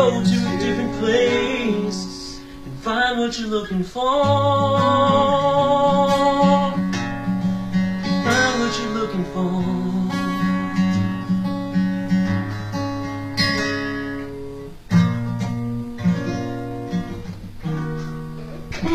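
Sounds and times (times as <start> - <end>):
acoustic guitar strumming chords: 0.0 - 18.9.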